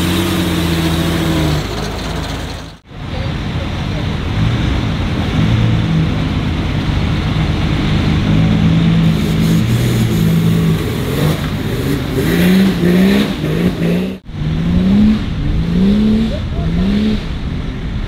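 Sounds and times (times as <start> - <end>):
engine running and revving: 0.0 - 18.0.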